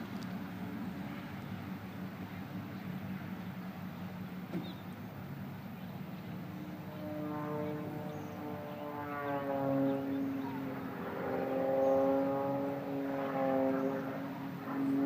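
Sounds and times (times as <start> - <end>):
propeller airplane engine droning: 0.0 - 15.0.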